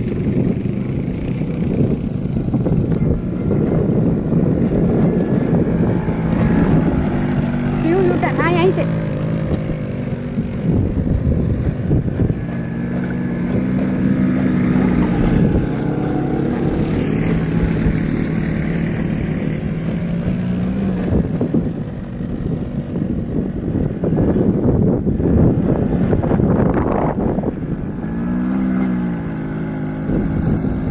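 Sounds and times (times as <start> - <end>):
off-road bike engine running: 0.0 - 30.9
wind buffeting microphone: 0.0 - 30.9.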